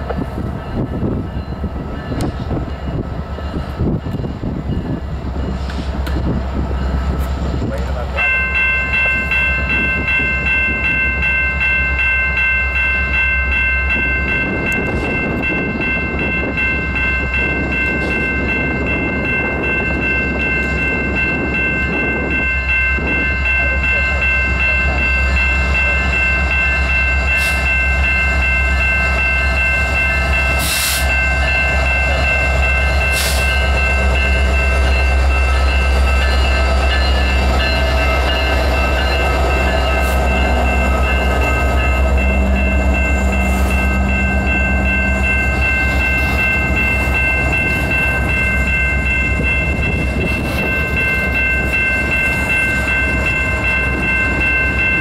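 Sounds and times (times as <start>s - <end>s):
diesel locomotive engines rumbling: 0.0s - 55.0s
high ringing warning tone: 8.2s - 55.0s.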